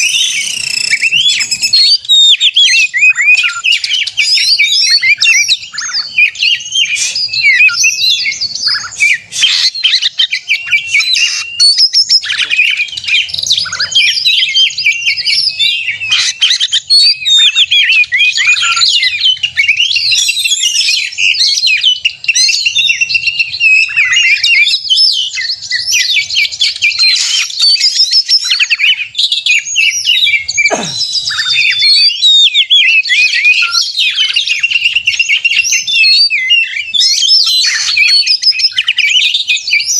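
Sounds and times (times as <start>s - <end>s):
long downward-sliding bird tone: 0.0s - 39.9s
songbirds whistling and chirping: 0.0s - 39.9s.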